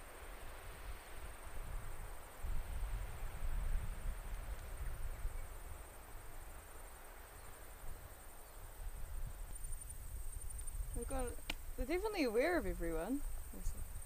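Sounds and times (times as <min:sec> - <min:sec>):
insects trilling: 0:00.0 - 0:14.0
wind buffeting microphone: 0:00.0 - 0:14.0.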